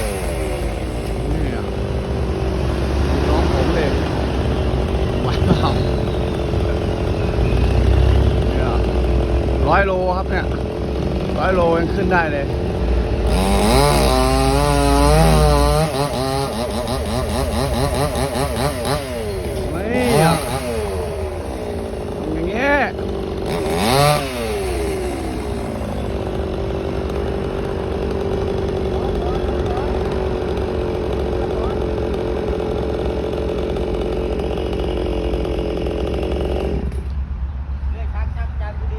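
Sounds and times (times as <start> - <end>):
chainsaw engine revving: 0.0 - 37.3.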